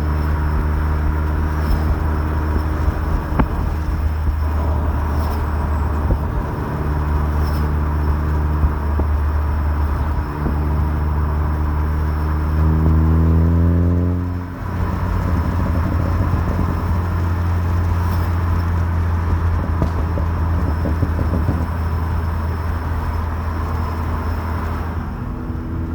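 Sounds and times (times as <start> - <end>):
car engine revving: 0.0 - 25.9
rough engine rumble: 0.0 - 25.9.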